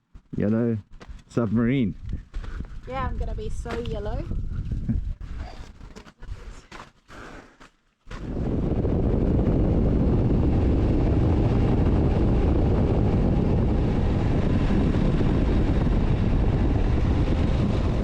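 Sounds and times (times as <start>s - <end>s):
wind rushing over microphone: 1.1s - 6.6s, 8.1s - 18.0s.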